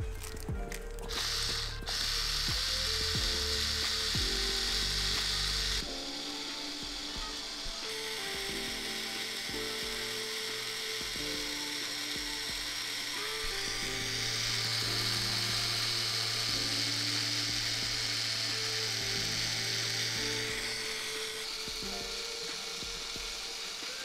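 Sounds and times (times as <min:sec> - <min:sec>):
simple melody background music: 0:00.0 - 0:24.0
tattoo machine buzzing: 0:00.0 - 0:24.0.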